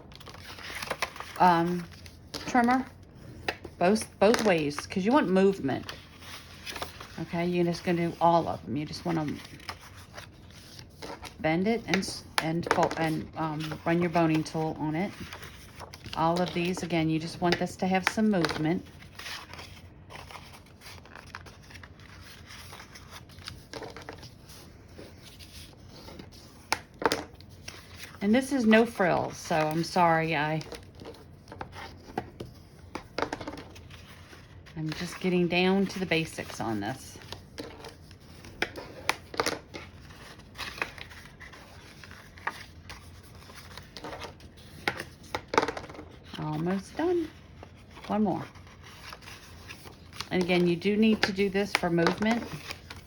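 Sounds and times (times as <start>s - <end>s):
paper rustling and scraping: 0.0s - 53.0s.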